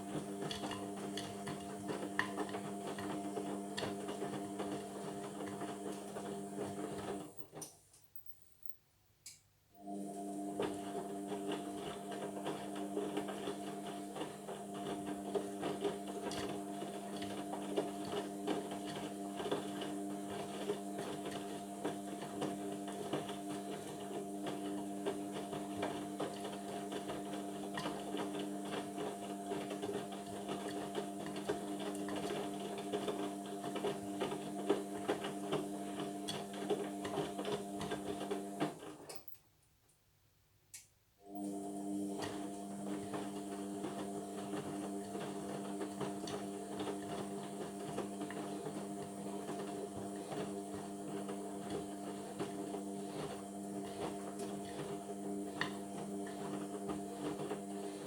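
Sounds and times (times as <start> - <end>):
washing machine motor whine: 0.0 - 7.4, 9.8 - 38.9, 41.2 - 58.0.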